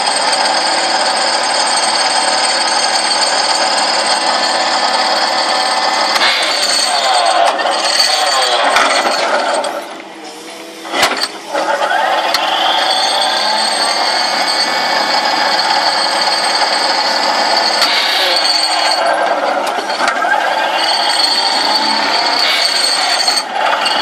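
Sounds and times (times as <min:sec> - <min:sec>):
excavator ripper rattling drone: 0:00.0 - 0:24.0.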